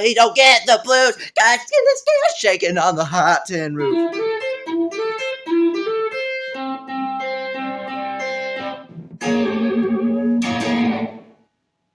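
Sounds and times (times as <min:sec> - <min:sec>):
rockabilly guitar: 0:00.0 - 0:11.4.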